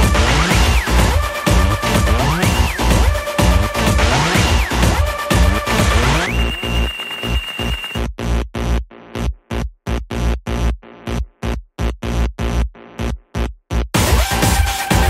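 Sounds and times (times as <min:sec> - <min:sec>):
chopped synth stabs: 0:00.0 - 0:08.8, 0:10.5 - 0:15.0.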